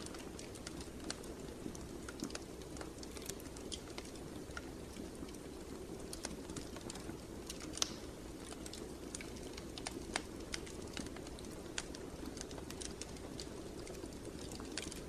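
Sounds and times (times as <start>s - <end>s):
low rumble of flames: 0.0s - 15.0s
sharp pops and snaps: 0.0s - 15.0s
wood fire crackling: 0.0s - 15.0s.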